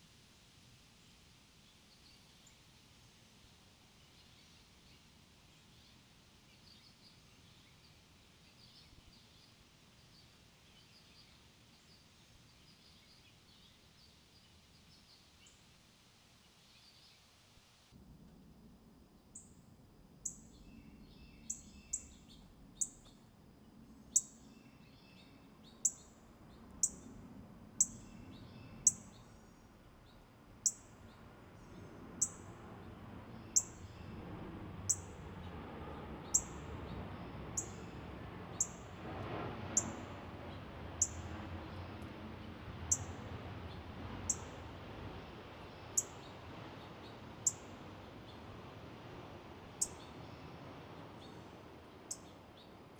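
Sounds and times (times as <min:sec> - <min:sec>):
soft background hum: 0:00.0 - 0:52.9.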